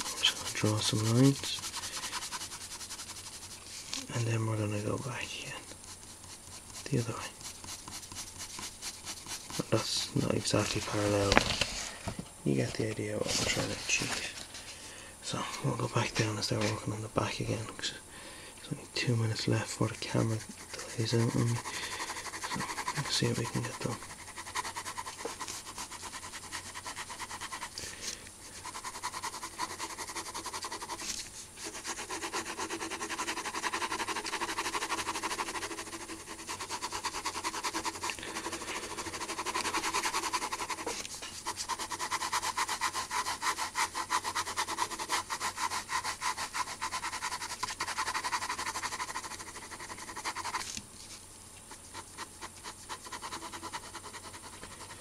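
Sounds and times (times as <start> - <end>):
pen scratching on paper: 0.0 - 4.9, 5.6 - 11.6, 19.6 - 27.9, 28.5 - 50.8, 51.7 - 55.0.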